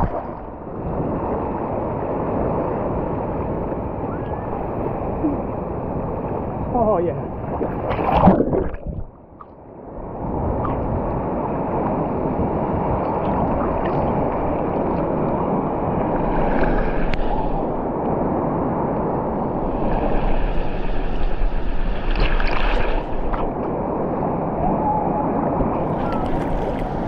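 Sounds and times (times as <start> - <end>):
sea waves rushing: 0.0 - 27.0.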